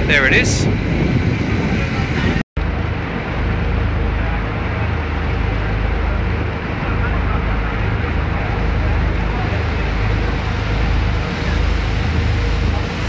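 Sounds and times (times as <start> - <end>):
boat engine droning: 0.0 - 13.0
water wash: 0.0 - 13.0
wind noise: 0.0 - 13.0.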